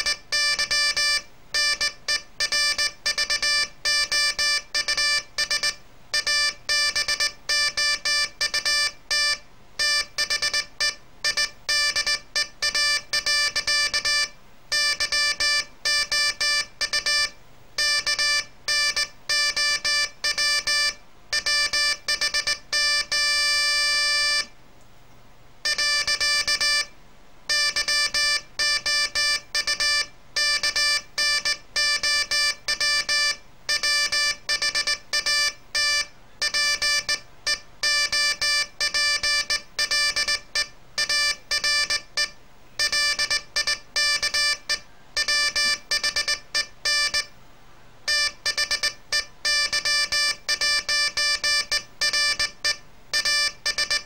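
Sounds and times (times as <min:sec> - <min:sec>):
morse code buzzy tone: 0:00.0 - 0:24.5, 0:25.6 - 0:26.9, 0:27.5 - 0:47.3, 0:48.1 - 0:54.0.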